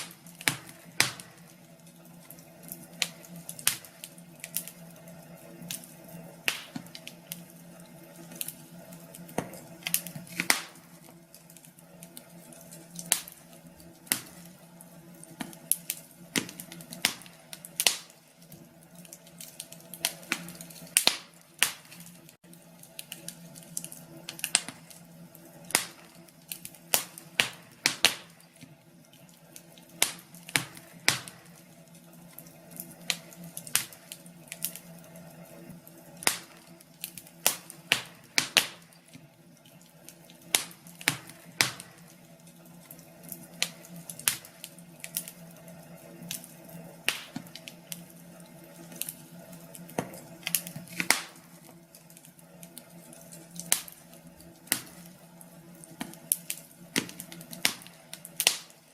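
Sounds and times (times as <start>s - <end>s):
fire crackling and popping: 0.0s - 58.9s.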